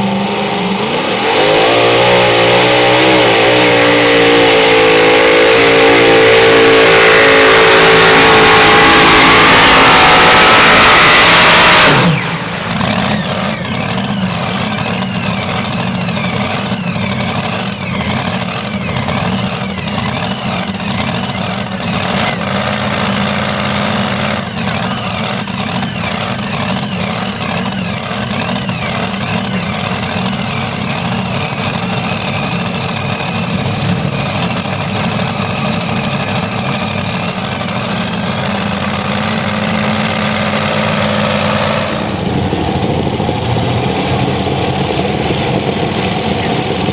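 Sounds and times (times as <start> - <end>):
tractor engines idling: 5.5 - 46.9.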